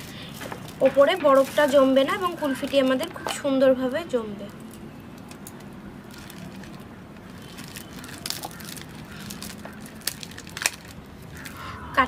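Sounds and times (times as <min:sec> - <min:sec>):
plastic sheet crinkling: 0:00.0 - 0:11.6.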